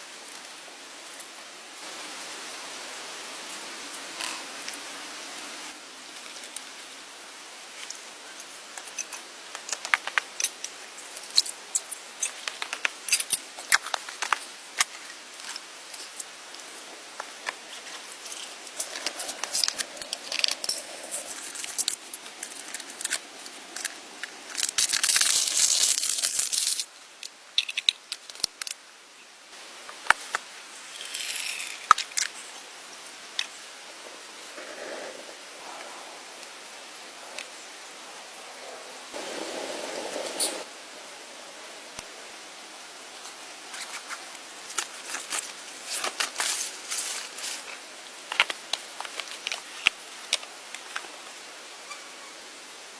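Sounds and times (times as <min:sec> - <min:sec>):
crackling and rustling handwork: 0:00.0 - 0:52.9
loud hissing rustle: 0:00.0 - 0:52.9.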